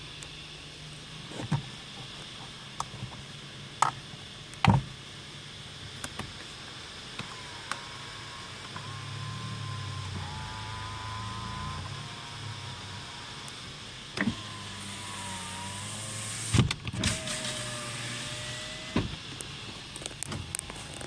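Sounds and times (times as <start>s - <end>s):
thin steady whine: 0.0s - 21.0s.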